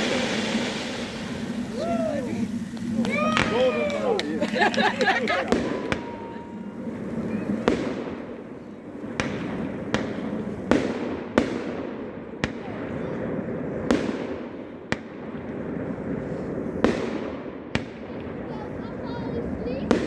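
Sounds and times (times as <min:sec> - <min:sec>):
fireworks bangs: 0:00.0 - 0:20.0
rumbling hiss of fireworks: 0:00.0 - 0:20.0.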